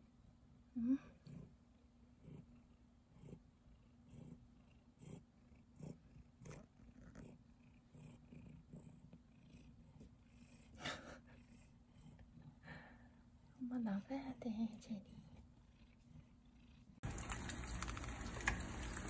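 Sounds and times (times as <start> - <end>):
cat purring: 0.7 - 18.9.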